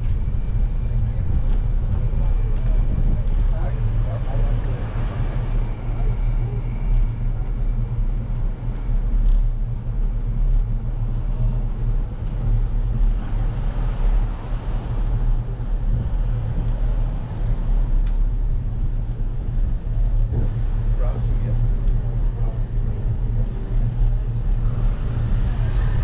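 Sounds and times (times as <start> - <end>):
cars passing: 0.0 - 26.0
wind and road rumble: 0.0 - 26.0.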